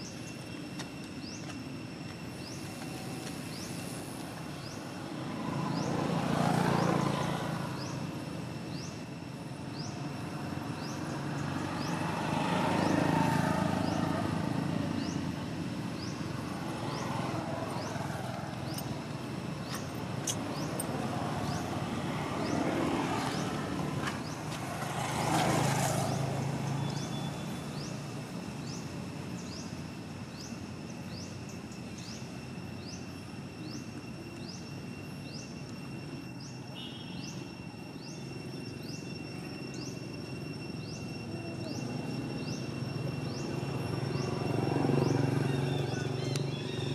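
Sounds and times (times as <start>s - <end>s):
passing vehicle engines: 0.0s - 46.9s.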